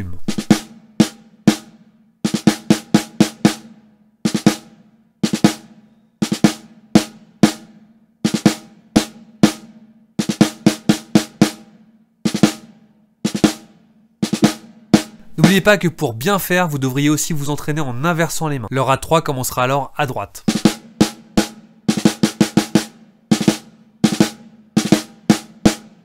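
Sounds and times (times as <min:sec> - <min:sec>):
snare drum march ruffs: 0:00.0 - 0:16.0, 0:20.0 - 0:26.0.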